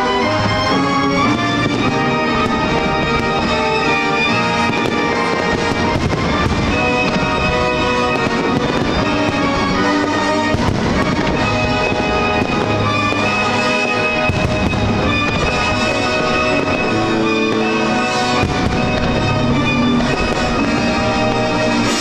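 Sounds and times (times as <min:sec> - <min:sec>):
fireworks bursting: 0:00.0 - 0:22.0
loud music with held notes: 0:00.0 - 0:22.0.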